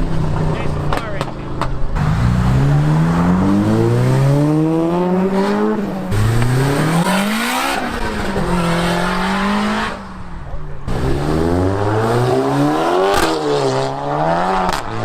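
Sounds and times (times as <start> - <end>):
car accelerating hard: 1.2 - 15.0.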